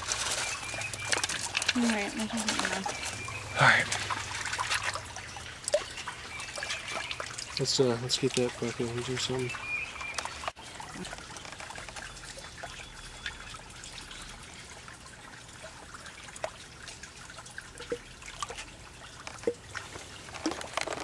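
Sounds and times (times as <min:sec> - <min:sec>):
small water splashes: 0:00.0 - 0:21.0
water trickling and dripping: 0:00.0 - 0:21.0.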